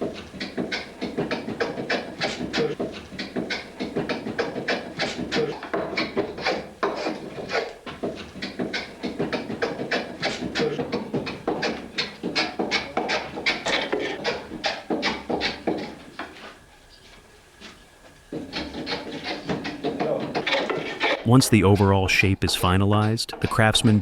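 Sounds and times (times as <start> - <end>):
hand tool scraping wood: 0.0 - 21.4.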